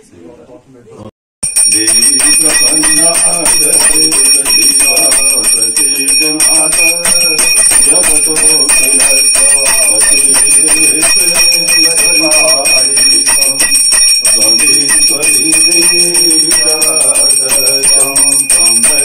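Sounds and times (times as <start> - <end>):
brass hand bell ringing: 1.4 - 19.0
voices chanting: 1.5 - 19.0.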